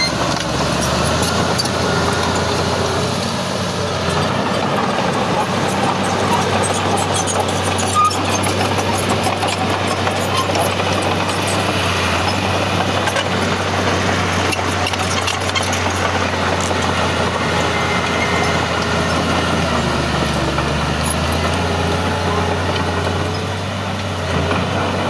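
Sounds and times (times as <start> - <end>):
diesel machinery engine drone: 0.0 - 25.0.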